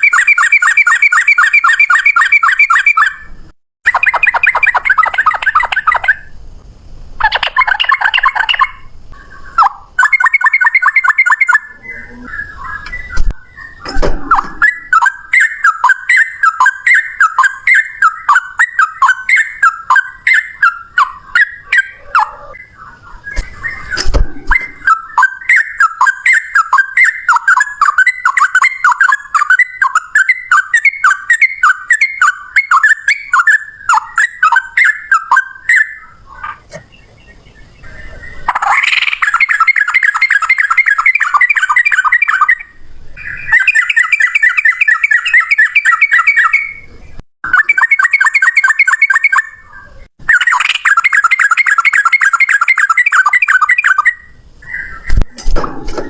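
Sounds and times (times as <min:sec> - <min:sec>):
bulbul singing whistled notes: 0:00.0 - 0:03.3, 0:03.9 - 0:06.3, 0:07.2 - 0:36.2, 0:36.9 - 0:55.3.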